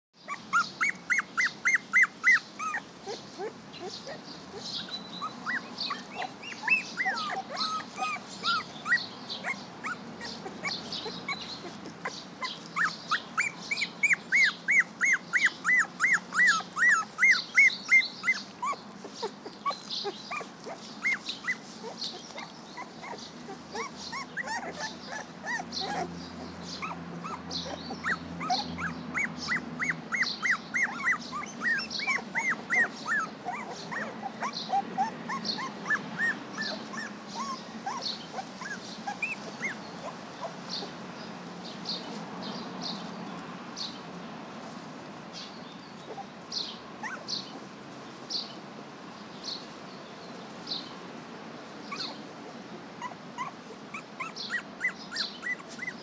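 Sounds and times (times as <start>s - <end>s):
puppies whining: 0.2s - 41.0s, 45.9s - 46.3s, 47.0s - 47.6s, 51.9s - 56.0s
birds singing: 0.2s - 44.1s, 45.3s - 51.1s, 51.8s - 56.0s.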